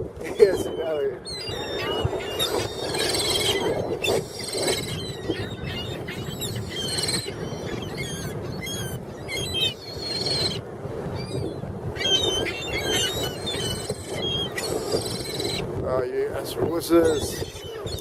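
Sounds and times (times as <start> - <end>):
seagulls squawking: 0.3 - 10.6, 11.2 - 15.6, 16.4 - 18.0.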